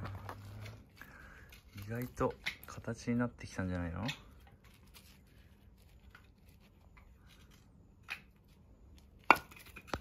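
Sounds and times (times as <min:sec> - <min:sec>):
gloved hand rustling: 0:00.0 - 0:10.0.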